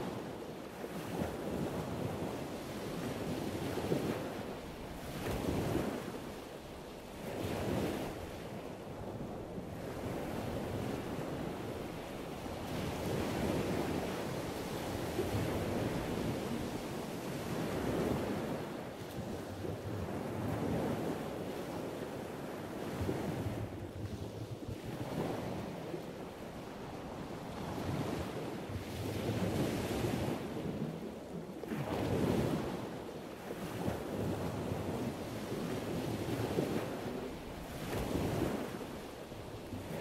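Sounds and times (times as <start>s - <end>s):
ocean waves washing in and out: 0.0s - 40.0s.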